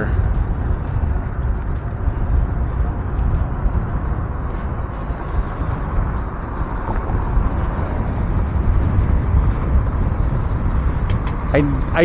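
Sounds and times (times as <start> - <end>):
car passing close: 0.0 - 12.0
wind noise on microphone: 0.0 - 12.0.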